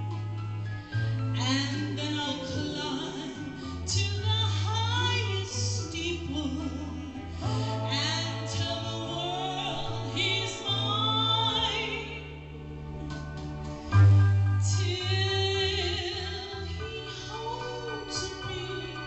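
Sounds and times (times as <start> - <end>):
instrumental accompaniment with bass: 0.0 - 19.0
woman singing into microphone: 1.4 - 12.5, 14.6 - 19.0.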